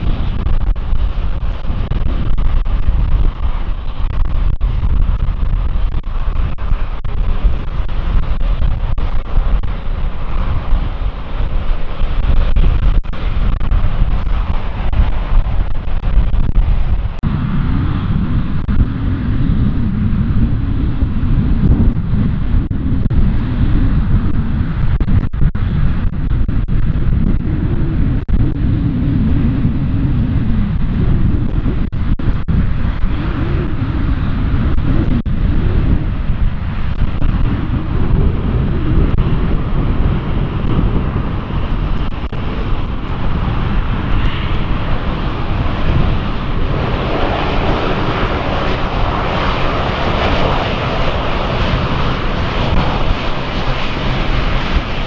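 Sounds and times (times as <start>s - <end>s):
airliner engines running: 0.0s - 55.0s
wind rumbling on microphone: 0.0s - 55.0s.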